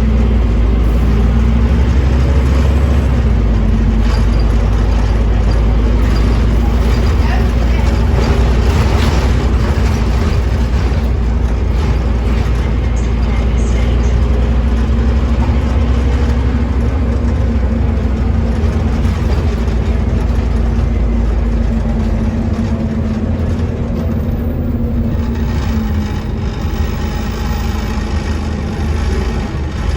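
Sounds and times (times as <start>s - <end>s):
bus diesel engine running: 0.0s - 29.9s.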